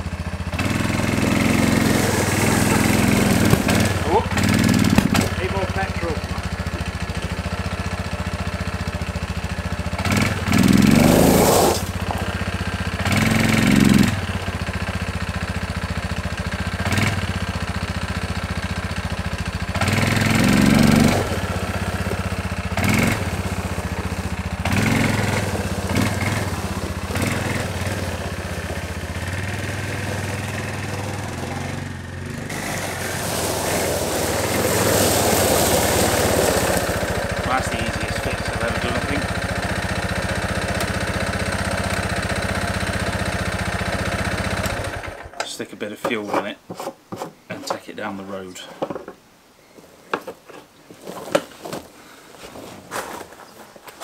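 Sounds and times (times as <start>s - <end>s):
atv engine idling and revving: 0.0s - 45.4s.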